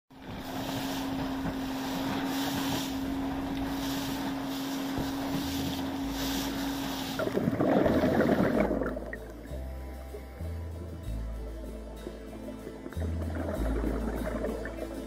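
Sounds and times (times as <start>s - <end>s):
rushing water and spray: 0.1s - 10.2s, 11.9s - 15.0s
boat engine humming: 0.1s - 15.0s
wind noise on microphone: 0.1s - 15.0s.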